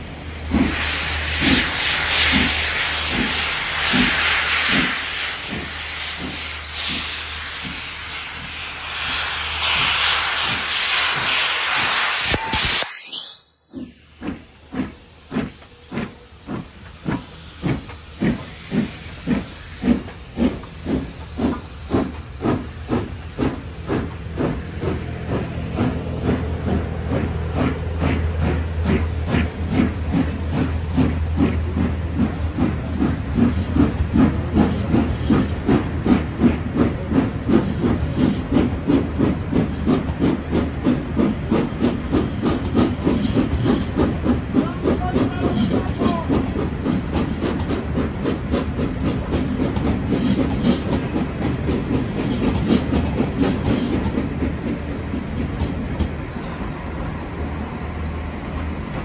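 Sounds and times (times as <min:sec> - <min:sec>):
train coaches rumbling: 0:00.0 - 0:12.8, 0:13.6 - 0:59.0
steam hissing: 0:00.0 - 0:59.0
steam locomotive exhaust chuffs: 0:00.0 - 0:59.0.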